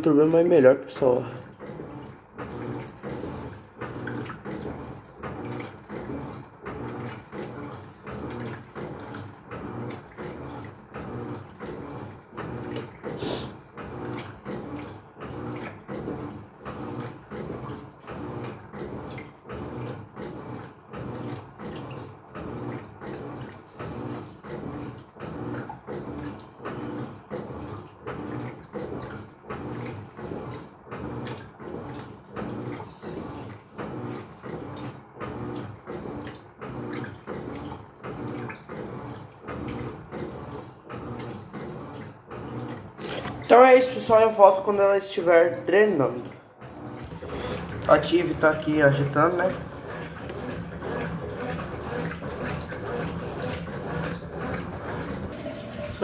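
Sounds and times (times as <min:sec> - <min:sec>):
washing machine agitator swinging: 0:00.0 - 0:56.0
water sloshing in tub: 0:00.0 - 0:56.0.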